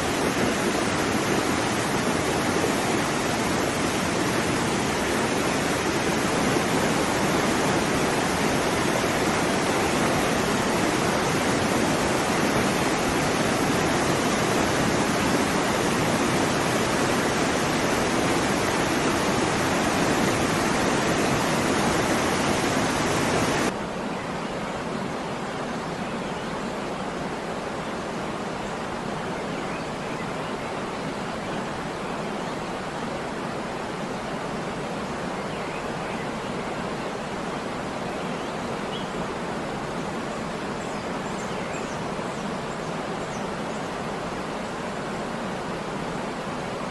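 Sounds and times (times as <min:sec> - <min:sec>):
waterfall rushing: 0:00.0 - 0:23.8, 0:30.8 - 0:46.9.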